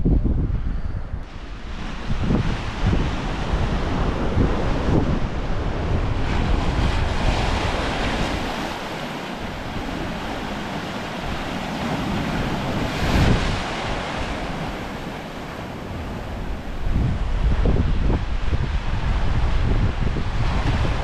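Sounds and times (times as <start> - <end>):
wind rumbling on microphone: 0.0 - 21.0
waves breaking on rocks: 1.4 - 21.0.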